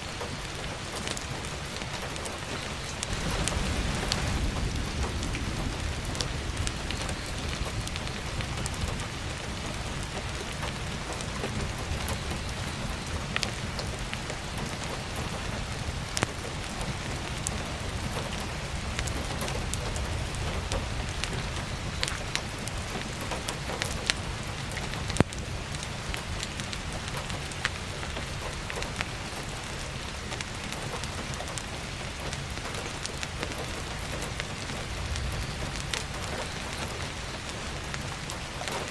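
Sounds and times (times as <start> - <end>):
firewood crackling and popping: 0.0 - 38.9
heavy rain falling: 0.0 - 38.9.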